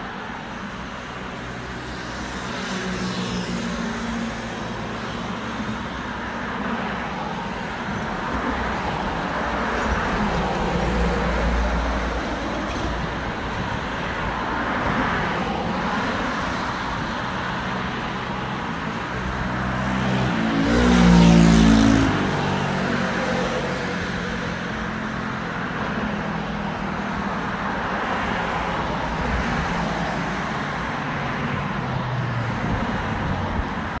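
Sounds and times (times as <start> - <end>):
road traffic noise: 0.0 - 34.0.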